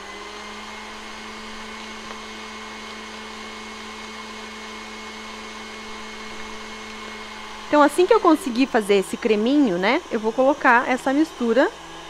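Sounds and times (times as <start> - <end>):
stand mixer motor humming: 0.0 - 12.0.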